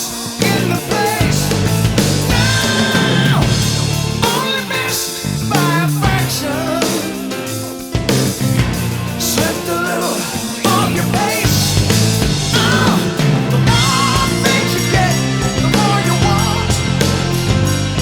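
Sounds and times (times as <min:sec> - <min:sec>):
rock song with singing: 0:00.0 - 0:18.0.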